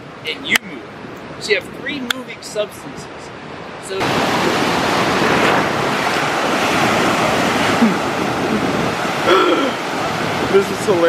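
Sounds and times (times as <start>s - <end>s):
ocean waves breaking: 0.0s - 11.0s.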